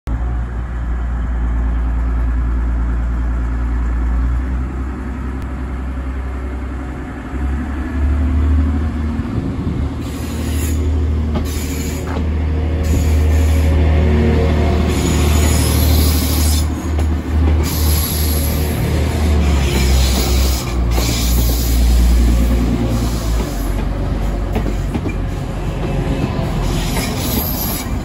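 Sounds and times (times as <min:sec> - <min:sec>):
train engine drone: 0:00.1 - 0:28.0.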